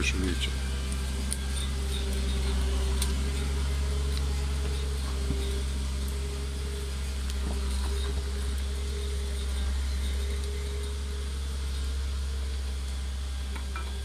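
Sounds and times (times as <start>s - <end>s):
diesel engine humming under load: 0.0s - 14.0s.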